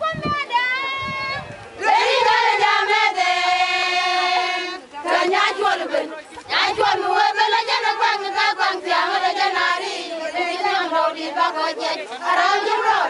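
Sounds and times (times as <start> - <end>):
women singing together: 0.6 - 13.0.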